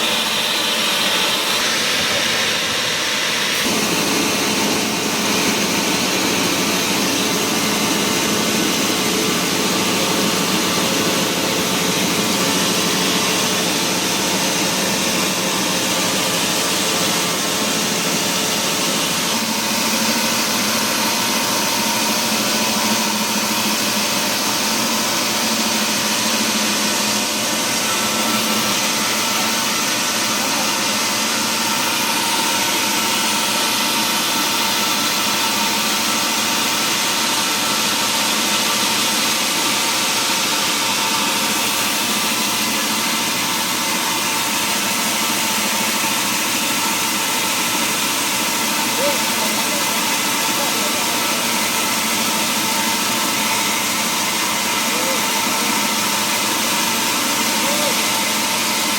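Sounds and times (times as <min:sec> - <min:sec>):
sawmill machinery drone: 0:00.0 - 0:58.9.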